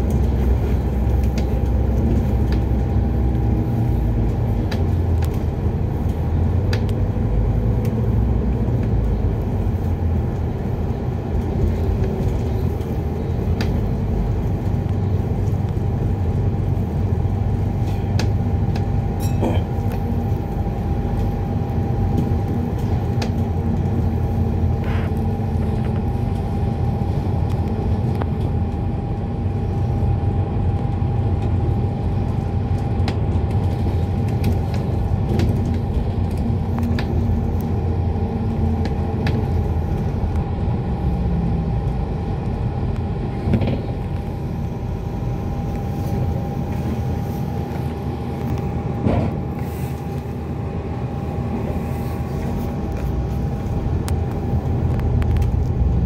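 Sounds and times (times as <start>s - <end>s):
bus engine rumble: 0.0s - 56.0s.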